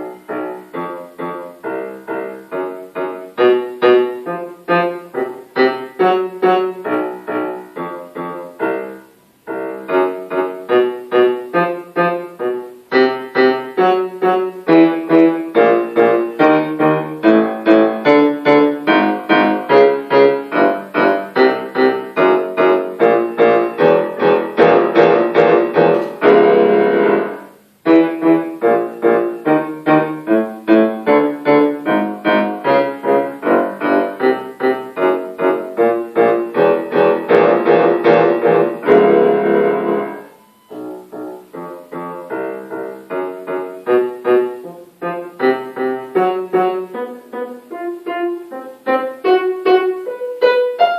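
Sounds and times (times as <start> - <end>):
solo piano playing: 0.0 - 50.9.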